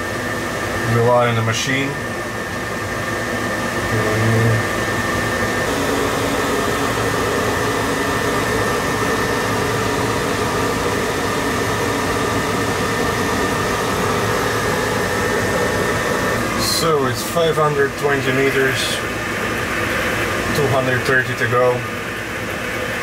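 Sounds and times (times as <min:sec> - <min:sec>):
mechanical hum and hiss: 0:00.0 - 0:23.0.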